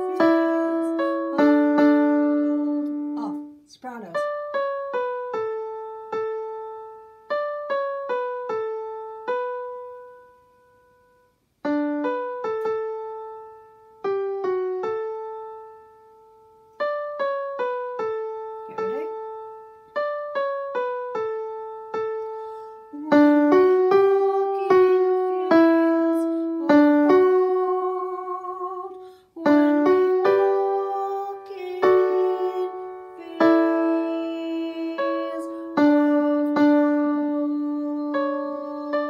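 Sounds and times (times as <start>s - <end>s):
piano notes and chords: 0.0s - 39.0s.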